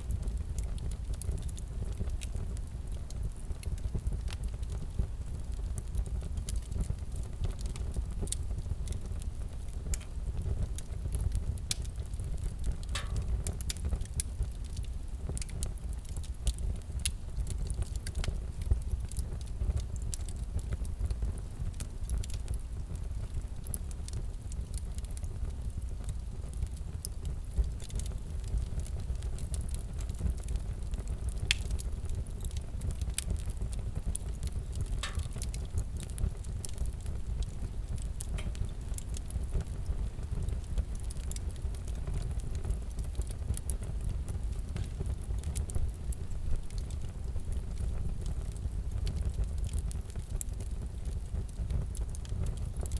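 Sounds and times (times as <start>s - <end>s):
fire crackling: 0.0s - 52.9s.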